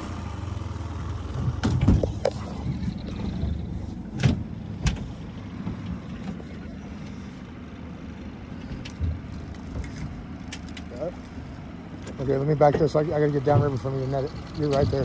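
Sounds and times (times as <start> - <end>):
outboard motor running low: 0.0 - 15.0.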